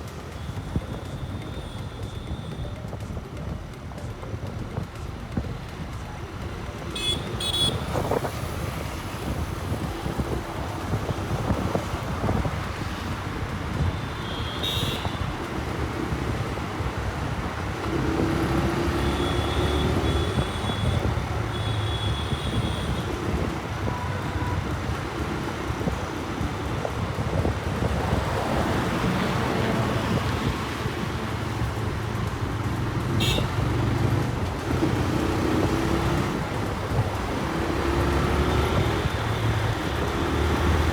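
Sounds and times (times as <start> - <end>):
motorcycle engine running: 0.0 - 40.9
passing traffic: 0.0 - 40.9
road and wind noise: 0.0 - 40.9.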